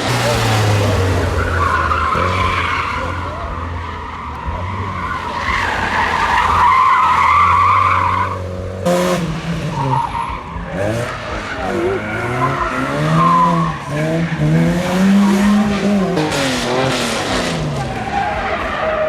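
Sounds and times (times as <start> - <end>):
rally car engine running hard: 0.0 - 6.6, 7.6 - 19.0
tyres skidding on road: 0.0 - 19.0.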